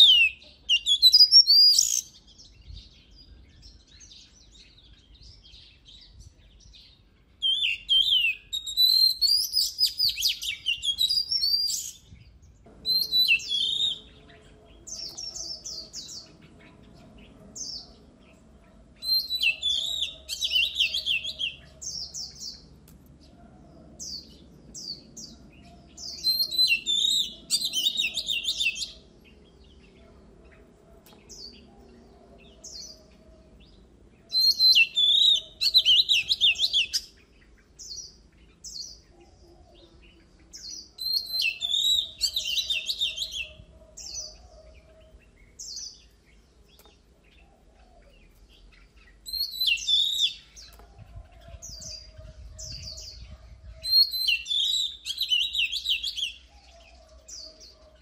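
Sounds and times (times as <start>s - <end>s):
bird singing whistles and trills: 0.0s - 18.0s, 19.0s - 22.6s, 24.1s - 30.0s, 34.2s - 40.0s, 40.6s - 46.1s, 47.9s - 58.0s.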